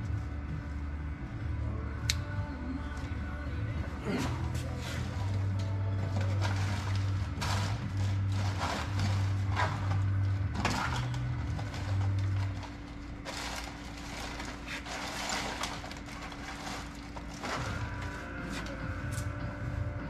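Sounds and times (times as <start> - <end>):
background music with bass: 0.0 - 20.0.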